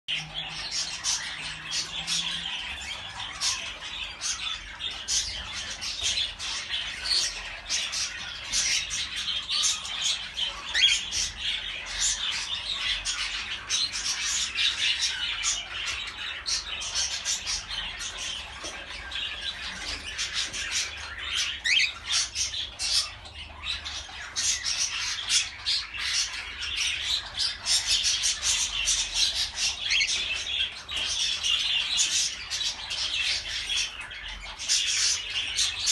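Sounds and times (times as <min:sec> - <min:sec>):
cockatiels chirping and squawking: 0:00.1 - 0:35.9.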